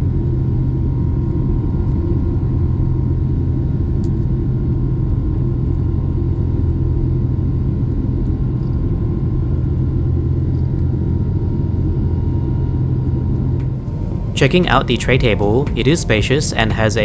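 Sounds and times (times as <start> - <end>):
airplane cabin engine rumble: 0.0 - 17.0
faint steady whine: 0.0 - 17.0.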